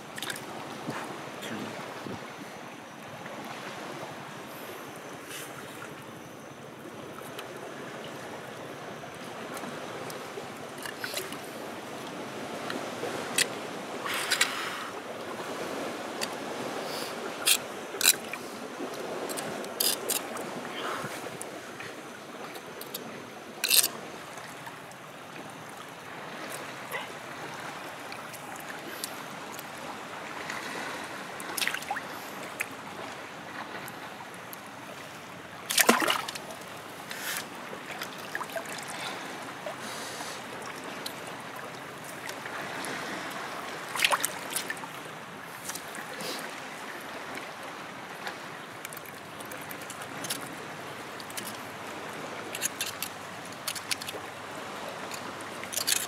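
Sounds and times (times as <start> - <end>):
water lapping over rock: 0.0 - 6.1, 6.8 - 56.0.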